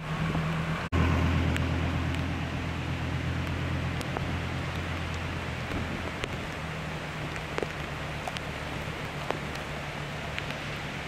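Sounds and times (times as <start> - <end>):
low hum: 0.0 - 10.0
rain falling: 0.0 - 11.0.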